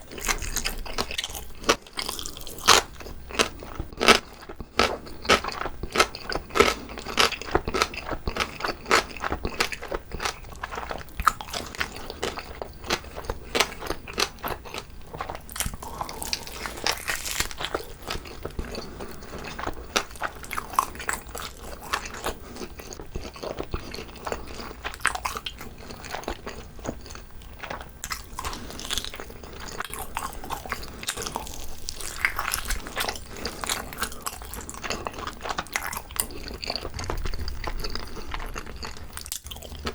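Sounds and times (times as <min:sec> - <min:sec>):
biting and chewing: 0:00.0 - 0:39.9.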